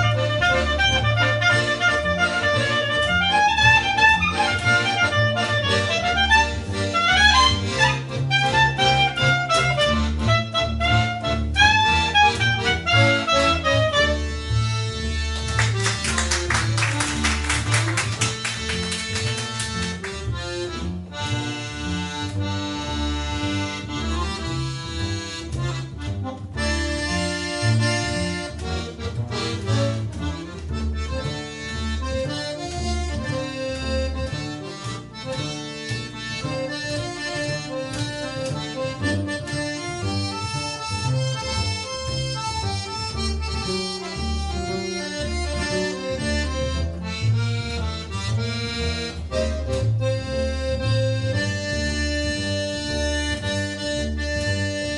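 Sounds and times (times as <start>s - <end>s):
accordion playing: 0.0s - 54.9s
bass line: 0.0s - 54.9s.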